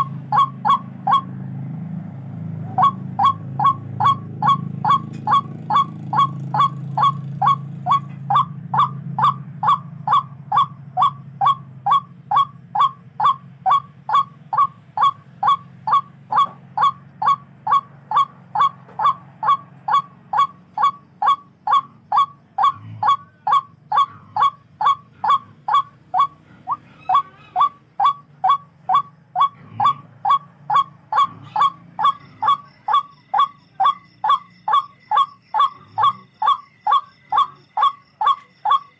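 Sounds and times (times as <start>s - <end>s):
bird honking calls: 0.0s - 1.4s, 2.7s - 38.9s
low background rumble: 0.0s - 38.9s.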